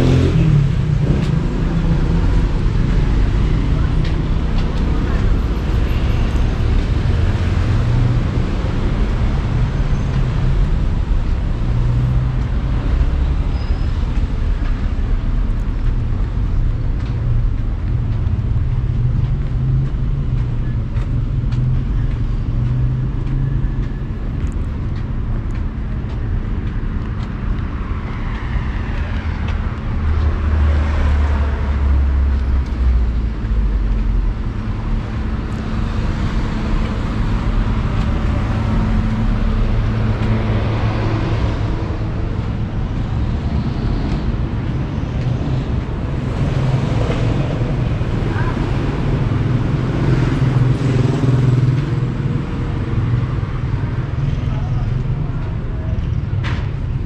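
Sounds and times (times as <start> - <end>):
cars passing with low rumble: 0.0 - 57.0.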